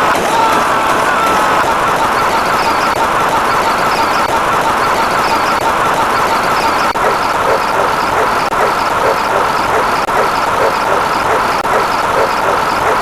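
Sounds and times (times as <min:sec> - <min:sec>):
faint repeating pulse: 0:00.0 - 0:13.0
overlapping sound effects: 0:00.0 - 0:13.0.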